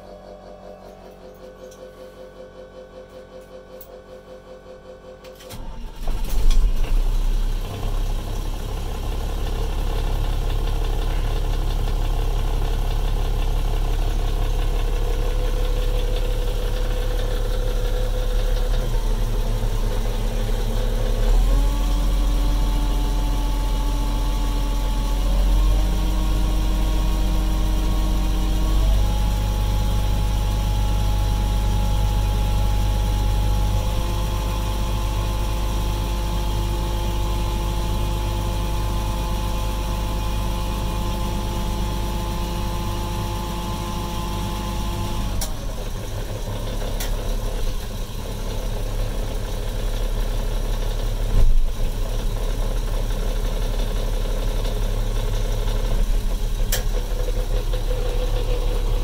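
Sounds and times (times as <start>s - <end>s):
diesel engine starting and idling: 0.0s - 59.0s.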